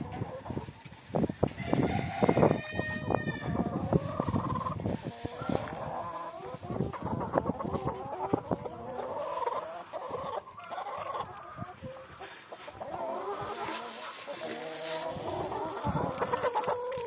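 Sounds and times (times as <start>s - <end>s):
hens and roosters clucking: 0.0s - 17.0s.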